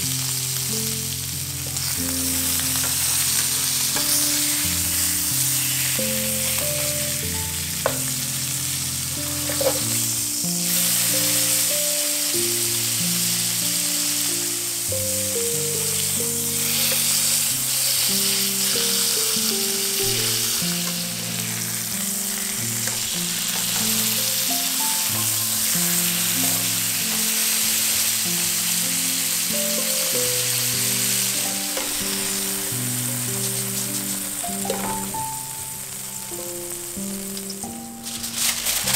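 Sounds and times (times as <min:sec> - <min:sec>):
background music with held notes: 0:00.0 - 0:38.9
food sizzling in a pan: 0:00.0 - 0:38.9.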